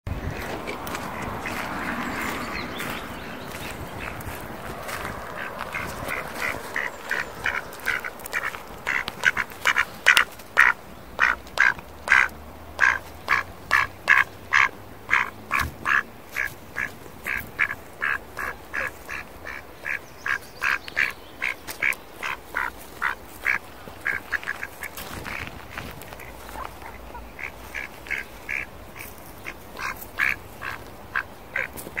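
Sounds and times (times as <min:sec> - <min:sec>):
duck quacking: 0:00.2 - 0:32.0.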